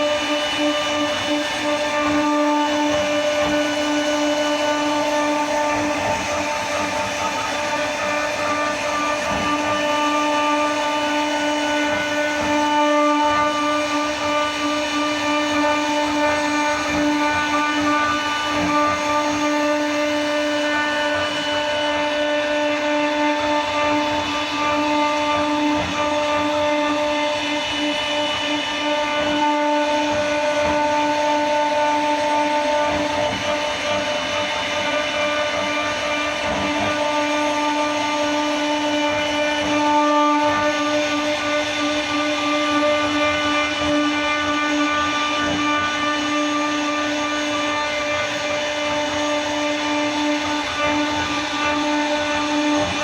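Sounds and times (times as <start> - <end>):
router spindle whining: 0.0 - 53.0.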